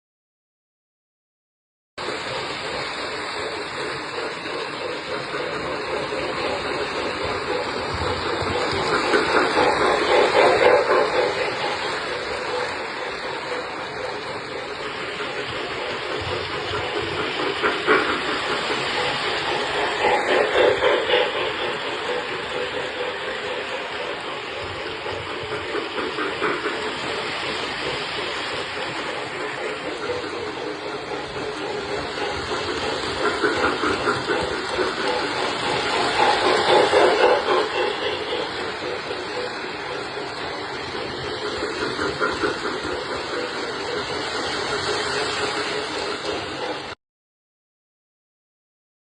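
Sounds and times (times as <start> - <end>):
model train motor hum: 2.0 - 46.9
model train wheels rumbling on rail: 2.0 - 47.0.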